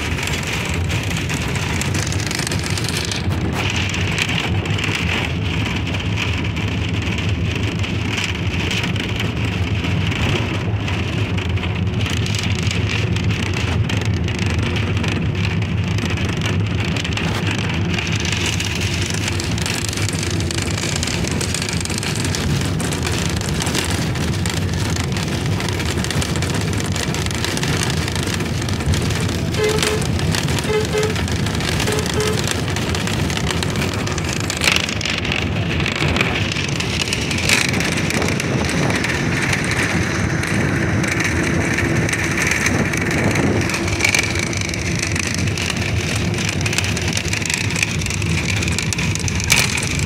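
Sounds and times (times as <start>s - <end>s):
bus road and engine rumble: 0.0s - 50.0s.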